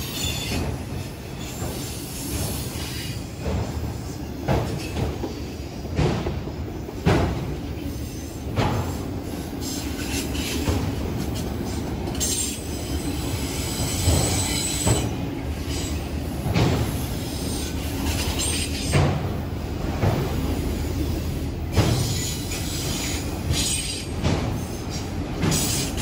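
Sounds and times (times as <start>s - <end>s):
freight train wheels knocking: 0.0s - 26.0s.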